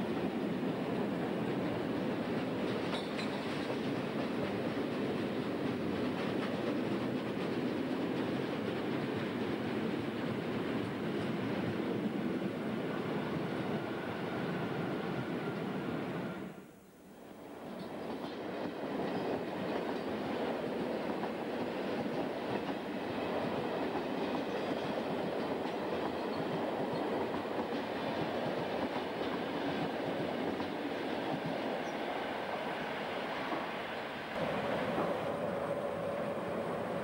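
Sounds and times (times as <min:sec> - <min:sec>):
train wheels rumbling and clattering: 0:00.0 - 0:14.2, 0:17.8 - 0:33.8.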